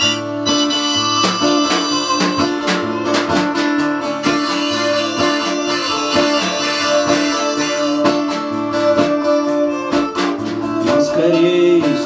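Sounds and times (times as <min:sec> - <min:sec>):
harmonica playing held notes: 0:00.0 - 0:11.6
strummed acoustic guitar: 0:00.0 - 0:12.0
violin bowing: 0:00.0 - 0:12.0.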